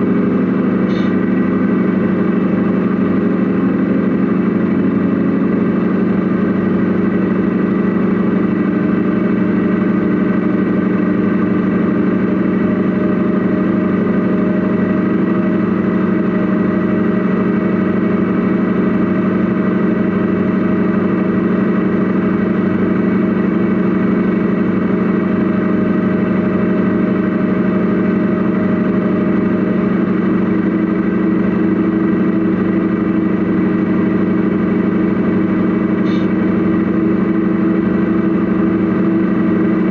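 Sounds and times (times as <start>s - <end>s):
model truck engine hum: 0.0s - 39.9s.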